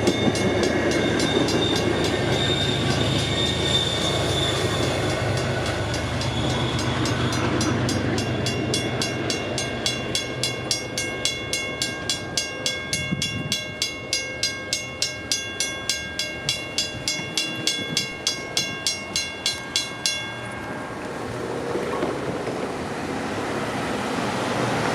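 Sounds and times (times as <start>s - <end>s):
railroad crossing bell ringing: 0.0s - 22.6s
train rumbling on tracks: 0.0s - 24.9s.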